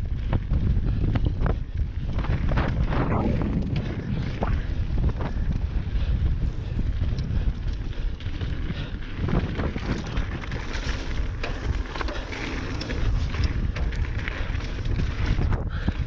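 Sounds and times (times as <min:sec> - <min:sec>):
bike clicks and rattles: 0:00.0 - 0:16.0
heavy rumble of bike on trail: 0:00.0 - 0:16.0
wind buffeting microphone: 0:00.0 - 0:16.0.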